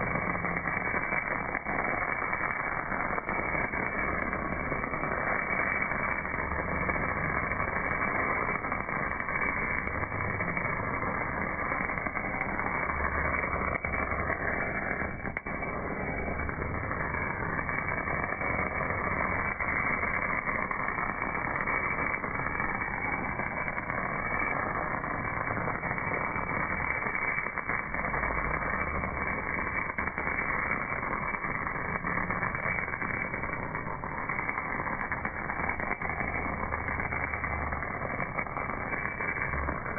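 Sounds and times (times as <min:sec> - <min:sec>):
welding arc hiss and crackle: 0:00.0 - 0:39.9.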